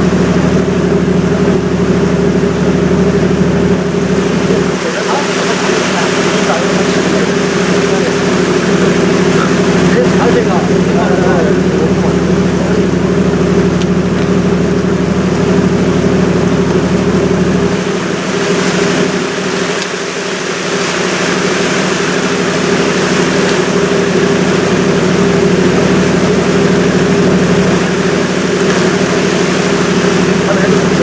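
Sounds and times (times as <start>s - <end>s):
ship engine droning: 0.0s - 31.0s.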